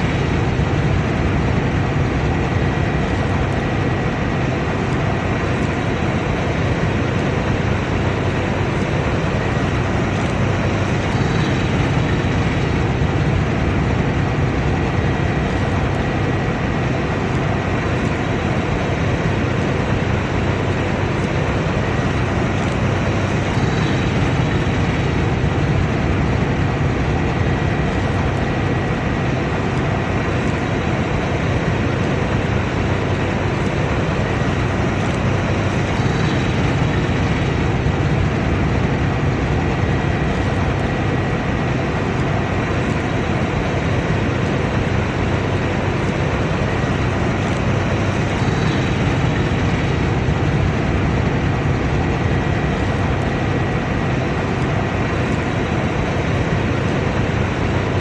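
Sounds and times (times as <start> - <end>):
combine harvester running: 0.0 - 58.0
faint steady whine: 0.0 - 58.0.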